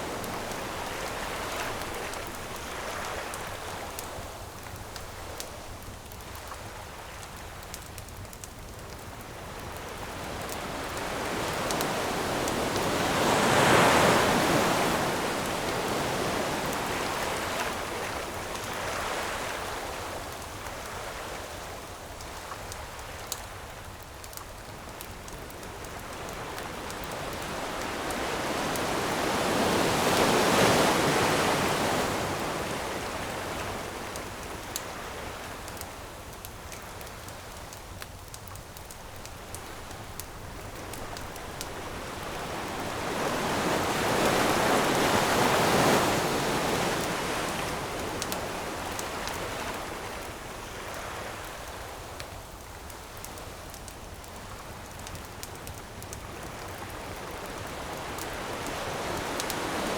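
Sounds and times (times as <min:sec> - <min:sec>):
campfire crackling: 0:00.0 - 0:59.9
ocean waves breaking on beach: 0:00.0 - 0:59.9.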